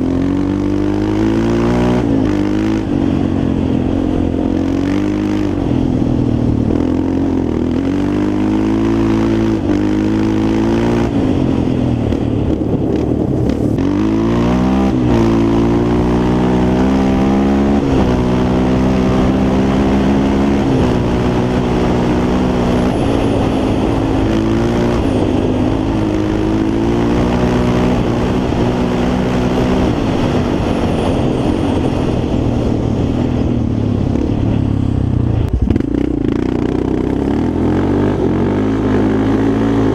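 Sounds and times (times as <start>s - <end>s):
quad engine revving: 0.0s - 33.2s, 34.0s - 39.9s.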